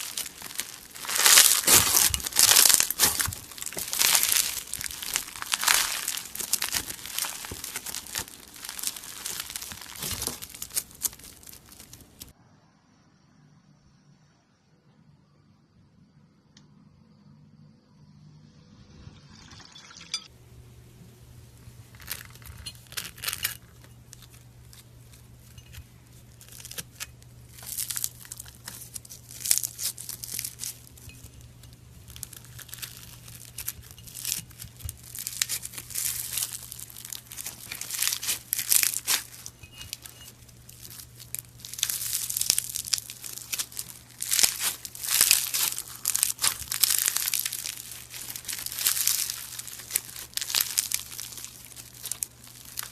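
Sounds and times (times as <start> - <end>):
crumbly material crunching: 0.0 - 12.3, 21.6 - 52.9.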